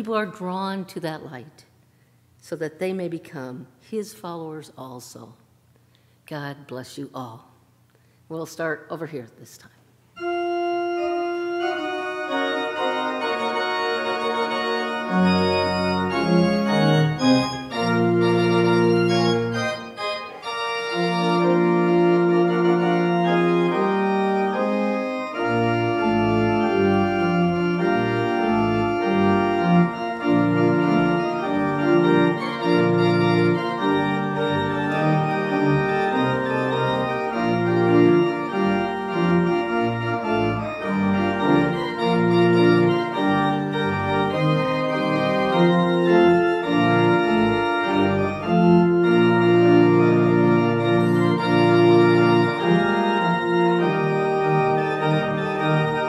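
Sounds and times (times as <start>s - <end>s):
church organ chords: 10.2s - 56.0s
deep organ pedal bass notes: 10.2s - 56.0s.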